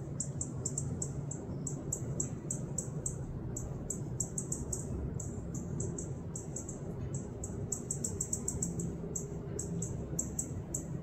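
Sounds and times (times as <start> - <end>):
low background rumble: 0.0 - 11.0
rapid high-pitched chirping: 0.2 - 11.0.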